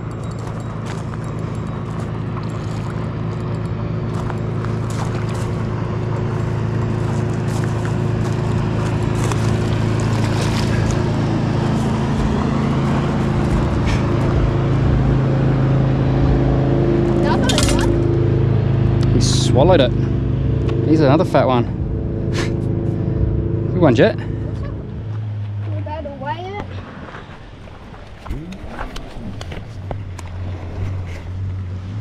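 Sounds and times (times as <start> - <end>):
motorboat engine humming: 0.0 - 32.0.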